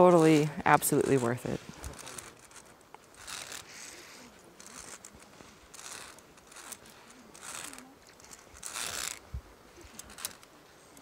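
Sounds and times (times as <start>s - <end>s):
microphone handling rustle: 0.0s - 10.5s.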